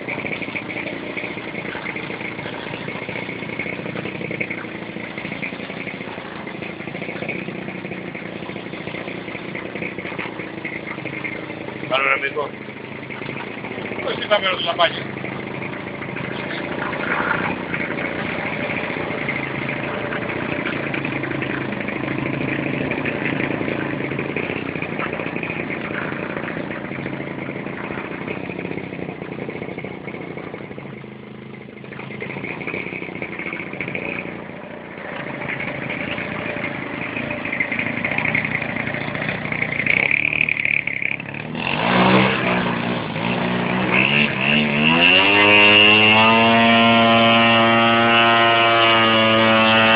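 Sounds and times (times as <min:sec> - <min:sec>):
model airplane engine running: 0:00.0 - 0:49.9.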